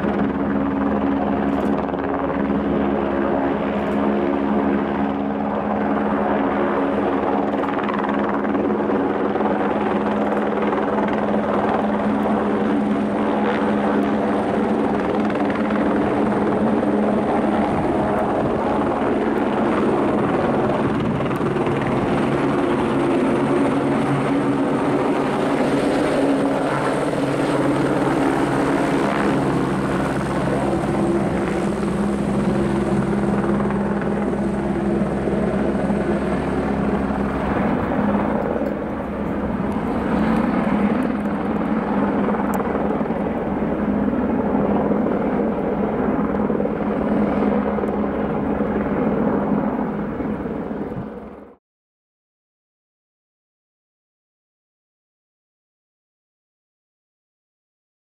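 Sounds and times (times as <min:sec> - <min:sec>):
helicopter hovering: 0:00.0 - 0:51.6.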